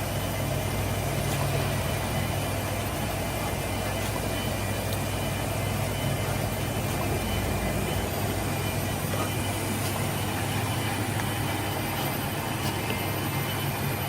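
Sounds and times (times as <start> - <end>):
production line machinery humming: 0.0 - 14.0.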